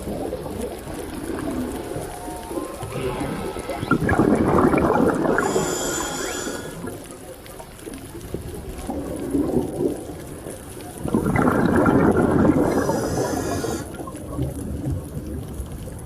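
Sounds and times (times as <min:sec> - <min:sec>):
underwater bubbling rush of water: 0:00.0 - 0:16.0.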